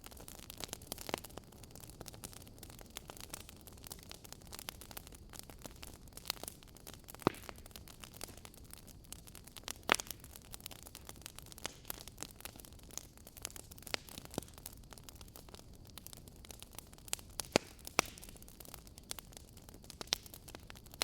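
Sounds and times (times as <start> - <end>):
fire pops: 0.0 - 21.0
fireplace crackling: 0.2 - 21.0.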